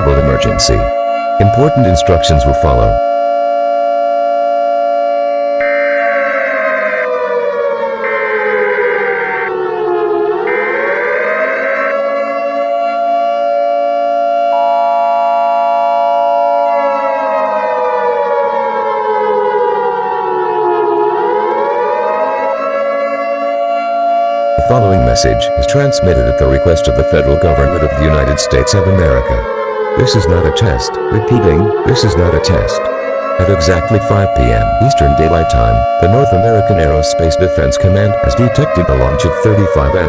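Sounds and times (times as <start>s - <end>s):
high siren tone: 0.0s - 40.0s
warning sirens: 0.0s - 40.0s.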